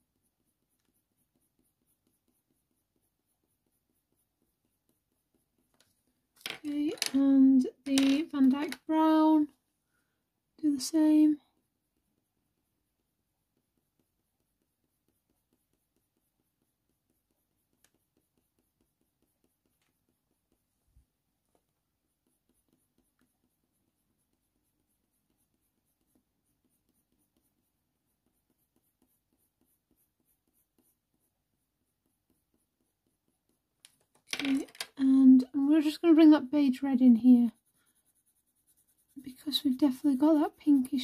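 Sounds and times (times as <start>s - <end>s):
pencil scratching on paper: 0.0s - 34.4s, 35.4s - 41.0s.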